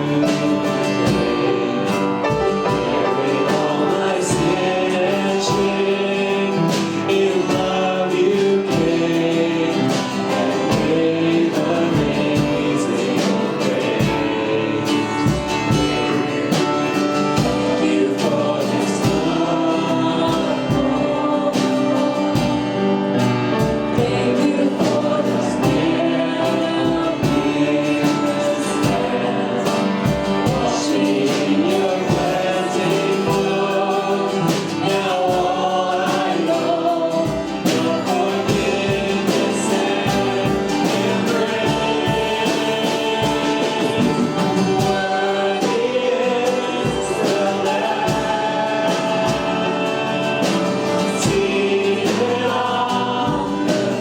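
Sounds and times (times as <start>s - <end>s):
drums: 0.0s - 54.0s
group singing gospel song: 0.0s - 54.0s
guitar: 0.0s - 54.0s.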